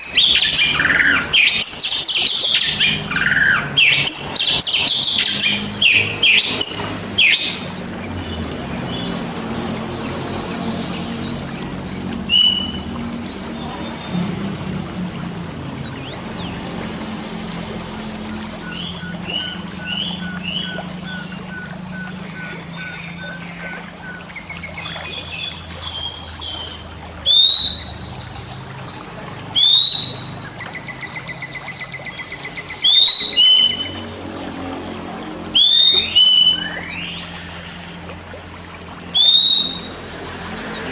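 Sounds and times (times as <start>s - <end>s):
bird song whistles and chirps: 0.0s - 16.6s, 18.4s - 34.9s, 35.5s - 37.9s, 39.1s - 40.1s.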